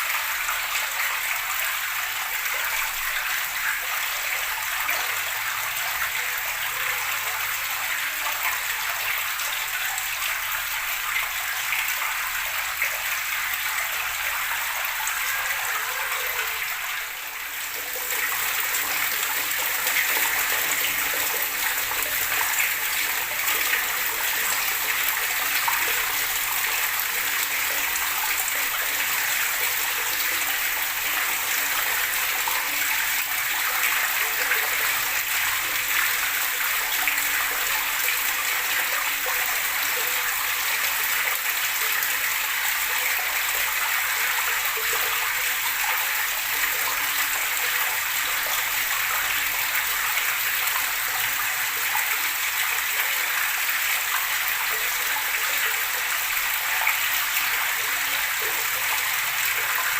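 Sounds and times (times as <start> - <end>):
running water splashing: 0.0 - 59.9.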